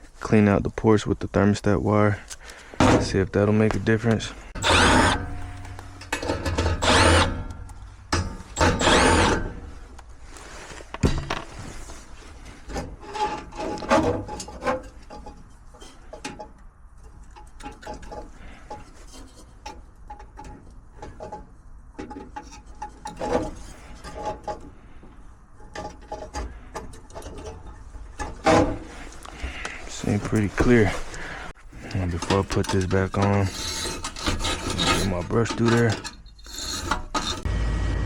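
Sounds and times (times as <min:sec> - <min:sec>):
wire scraping metal ports: 0:01.8 - 0:37.5.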